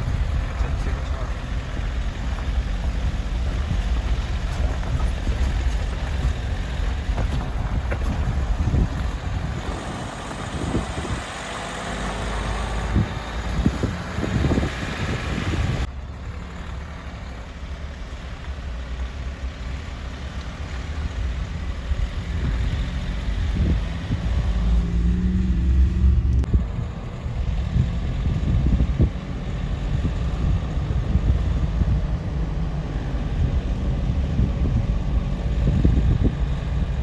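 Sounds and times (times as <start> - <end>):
vehicle engine and road rumble: 0.0 - 37.0.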